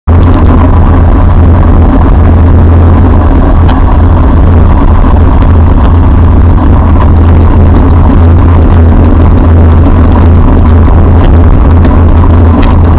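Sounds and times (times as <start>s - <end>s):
bicycle road noise: 0.1s - 12.9s
wind rumble: 0.1s - 12.9s.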